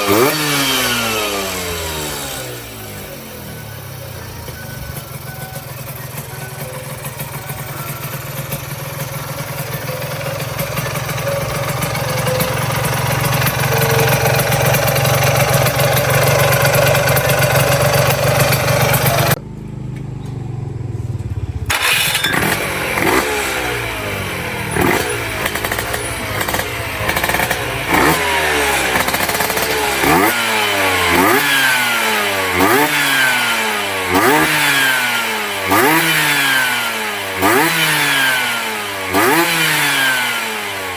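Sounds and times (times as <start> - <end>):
scooter engine running and revving: 0.0 - 40.9.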